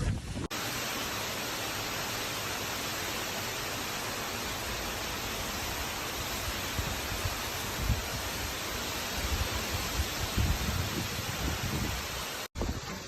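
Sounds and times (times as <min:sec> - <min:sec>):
steady hiss of noise: 0:00.1 - 0:13.0.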